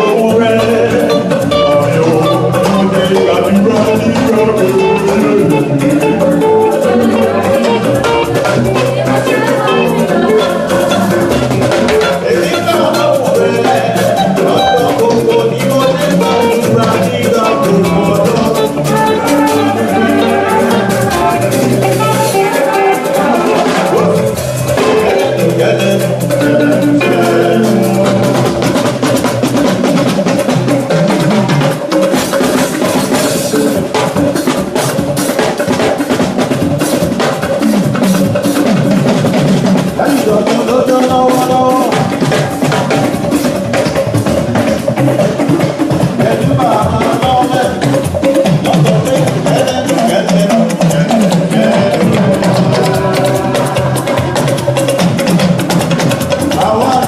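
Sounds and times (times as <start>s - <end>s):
drum kit beat: 0.0s - 57.0s
live band music: 0.0s - 57.0s.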